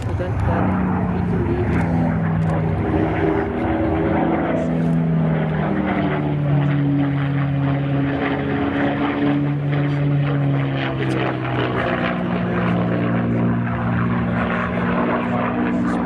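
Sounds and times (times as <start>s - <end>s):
propeller plane engine passing: 0.0s - 16.0s.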